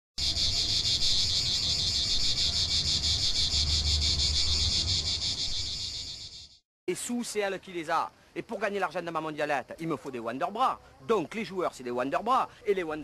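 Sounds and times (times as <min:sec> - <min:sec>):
insects chirring: 0:00.2 - 0:13.0.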